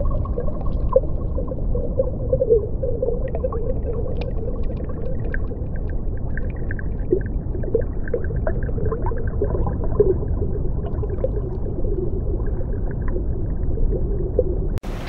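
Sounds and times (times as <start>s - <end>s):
underwater blips and gurgles: 0.0s - 15.0s
underwater low rumble: 0.0s - 15.0s.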